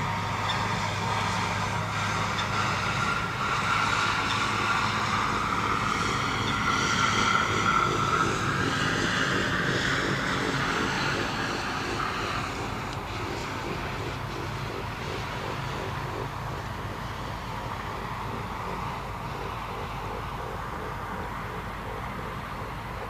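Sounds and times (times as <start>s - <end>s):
engine running with whine: 0.0s - 23.0s.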